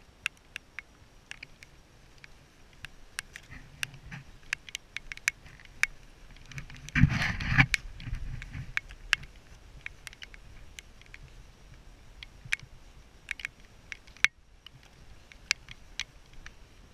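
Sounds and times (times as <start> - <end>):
raindrops tapping on camera: 0.0 - 16.8.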